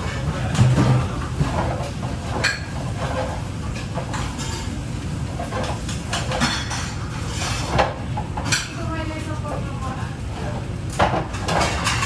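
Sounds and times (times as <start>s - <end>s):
plates and utensils clinking: 0.0s - 8.8s, 10.9s - 12.0s.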